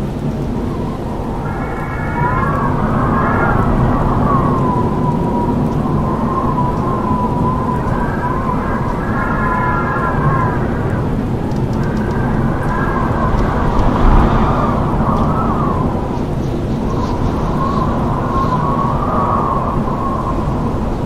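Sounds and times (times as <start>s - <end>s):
howling wind: 0.0s - 21.0s.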